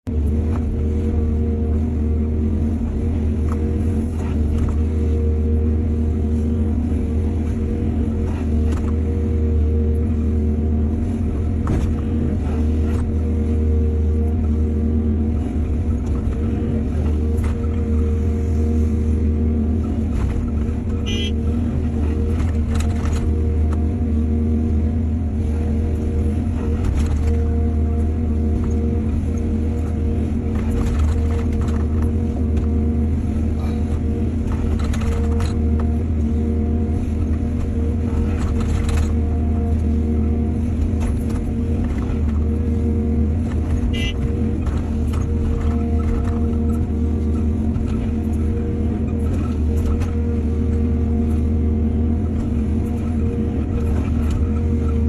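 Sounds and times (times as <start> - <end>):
diesel engine humming: 0.0 - 55.0.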